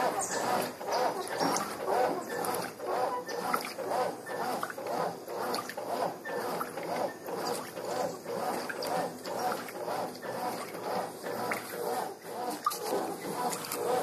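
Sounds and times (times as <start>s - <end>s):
washing machine agitator swishing: 0.0s - 14.0s.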